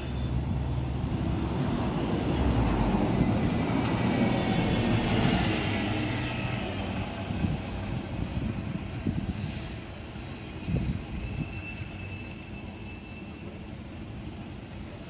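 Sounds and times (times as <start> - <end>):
city bus passing: 0.0 - 15.0.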